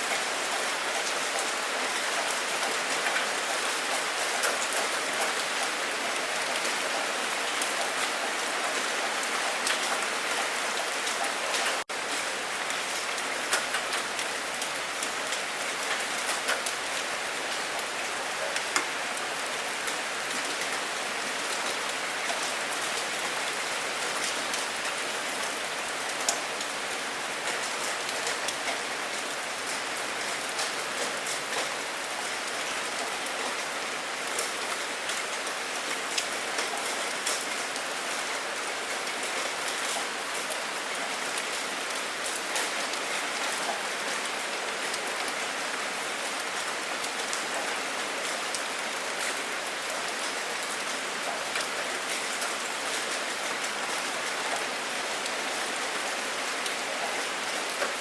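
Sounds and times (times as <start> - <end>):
heavy rain falling: 0.0 - 58.0
raindrops ticking close by: 8.8 - 58.0.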